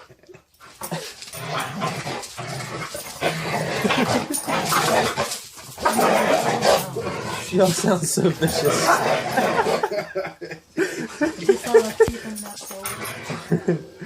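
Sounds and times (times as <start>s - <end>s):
dogs growling and snarling: 0.0s - 10.1s, 11.0s - 14.0s.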